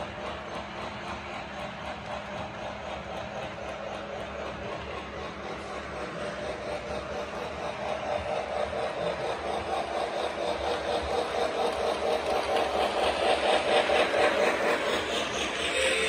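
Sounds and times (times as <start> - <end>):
model steam train chuffing: 0.0 - 16.0.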